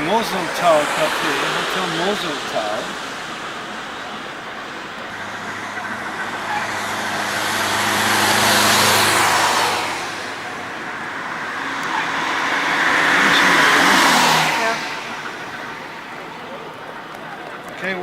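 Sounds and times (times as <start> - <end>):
cars passing by: 0.0 - 18.0.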